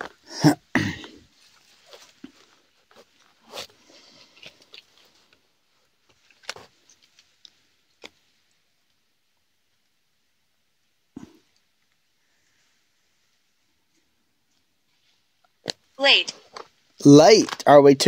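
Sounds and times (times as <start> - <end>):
faint rustles and clicks: 1.1 - 10.0, 11.2 - 17.7.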